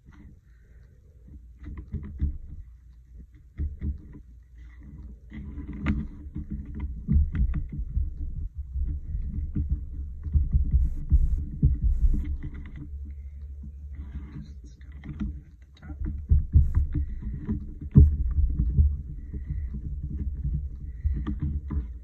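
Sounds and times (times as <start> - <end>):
sponge dabbing paint through stencil: 1.4 - 22.0.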